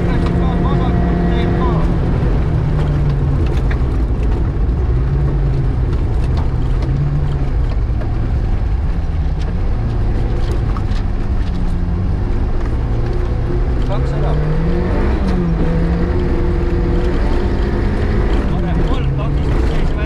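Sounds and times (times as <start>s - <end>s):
car engine running hard: 0.0s - 20.0s
gravel striking car: 0.0s - 20.0s.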